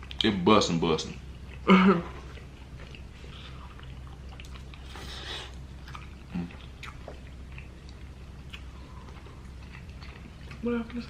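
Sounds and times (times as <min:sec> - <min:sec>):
chewing and smacking: 0:00.9 - 0:11.0.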